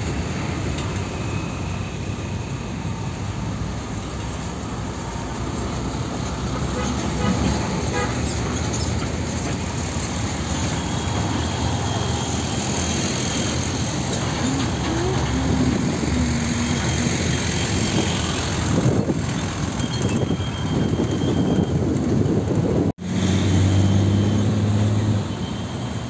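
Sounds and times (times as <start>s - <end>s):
truck diesel engine rumbling: 0.0s - 26.0s
tyre and road noise: 0.0s - 26.0s.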